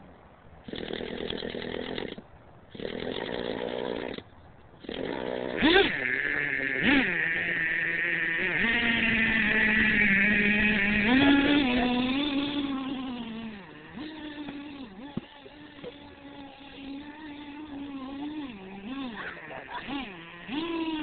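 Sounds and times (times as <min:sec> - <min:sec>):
model truck nitro engine revving: 0:00.7 - 0:04.2, 0:04.8 - 0:21.0.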